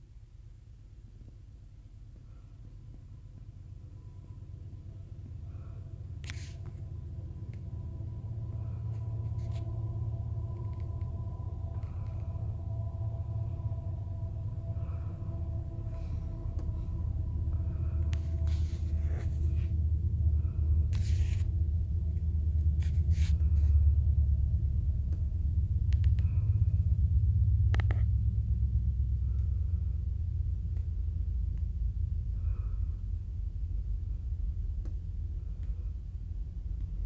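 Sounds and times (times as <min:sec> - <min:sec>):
diesel locomotive hum: 0:00.0 - 0:37.0
train wheels rumbling on rail: 0:02.2 - 0:37.0.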